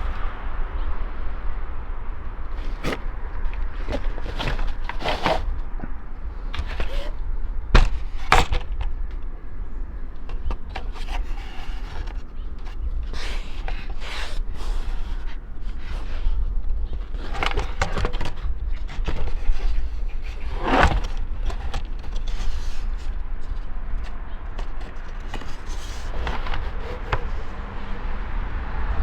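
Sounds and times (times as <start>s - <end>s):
plastic trim knocking and scraping: 2.5s - 9.2s, 10.2s - 27.7s.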